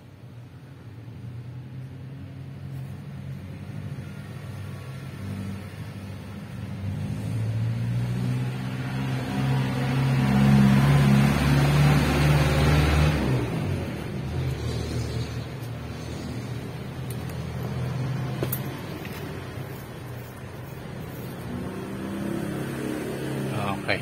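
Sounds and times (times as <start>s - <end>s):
engine running: 2.6s - 24.0s.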